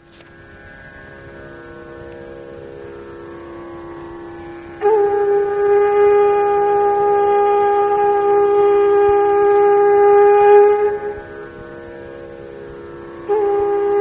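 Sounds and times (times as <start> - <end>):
soft continuous drone: 0.0 - 14.0
conch shell blown: 0.4 - 14.0.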